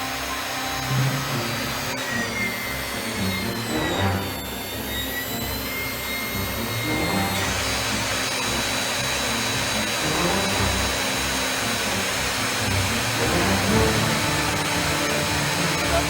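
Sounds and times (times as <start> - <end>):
electric motor whine: 0.0 - 16.0.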